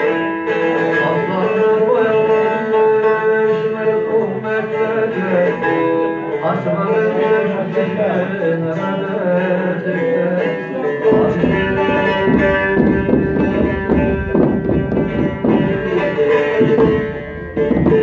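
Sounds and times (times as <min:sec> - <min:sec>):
long-necked lute strumming: 0:00.0 - 0:18.0.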